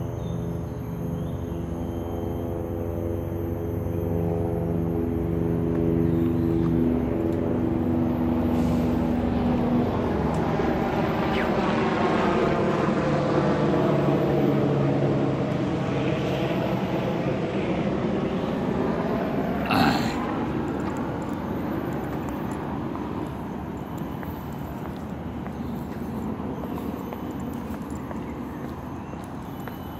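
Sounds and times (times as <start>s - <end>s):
aircraft drone overhead: 0.0s - 29.9s.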